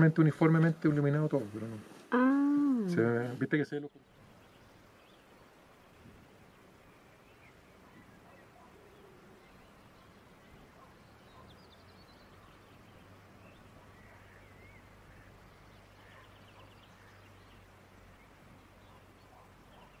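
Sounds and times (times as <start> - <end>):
distant bird chirps: 3.8 - 20.0.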